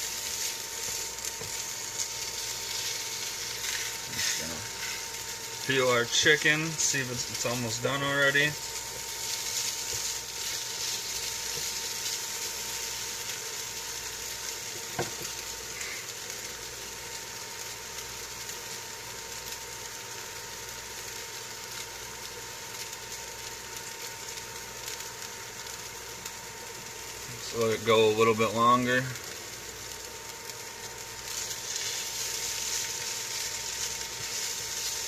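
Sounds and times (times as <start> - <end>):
chicken strips sizzling: 0.0 - 35.0.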